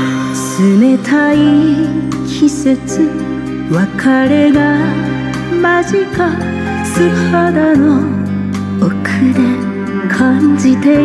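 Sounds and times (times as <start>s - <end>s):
ballad with bass and melody: 0.0s - 11.0s.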